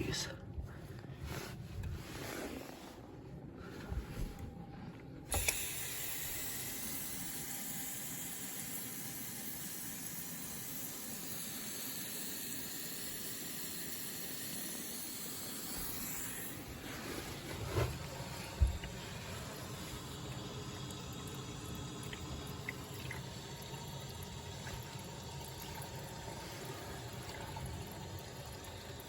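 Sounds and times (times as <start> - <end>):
water running into drain: 5.3 - 29.0.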